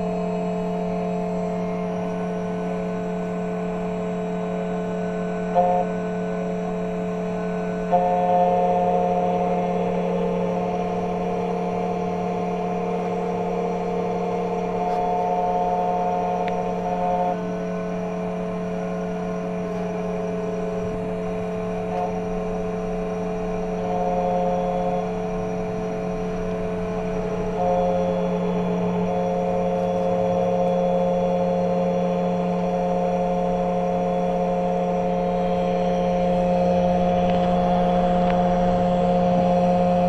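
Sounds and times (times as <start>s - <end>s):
cutter whine: 0.0s - 40.0s
key cutting machine motor hum: 0.0s - 40.0s.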